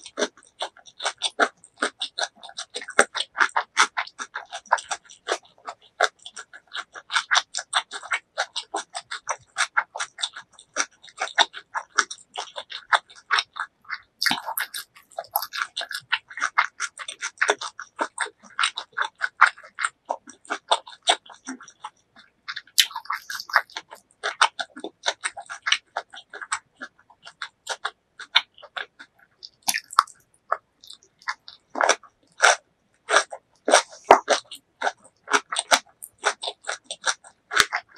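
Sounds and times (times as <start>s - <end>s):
mouth chewing food: 0.0s - 37.9s.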